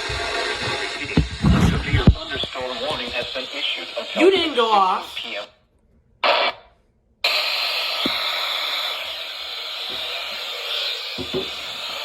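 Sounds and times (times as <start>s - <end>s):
radio static hiss: 0.0s - 5.6s, 7.3s - 12.0s.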